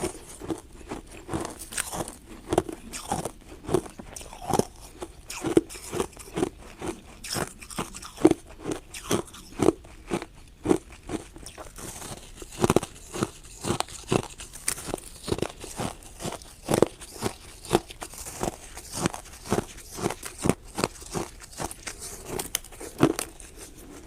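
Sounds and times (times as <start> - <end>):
ice crunching being chewed: 0.0 - 24.0.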